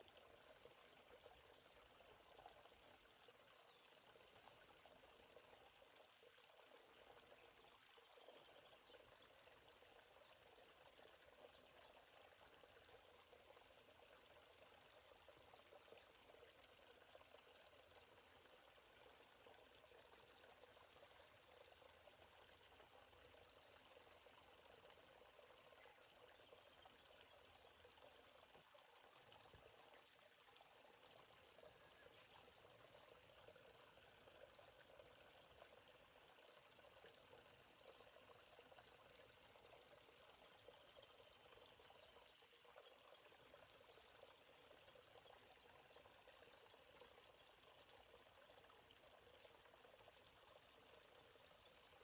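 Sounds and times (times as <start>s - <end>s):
faint stream water running: 0.0s - 52.0s
high-pitched insect chorus: 6.4s - 52.0s.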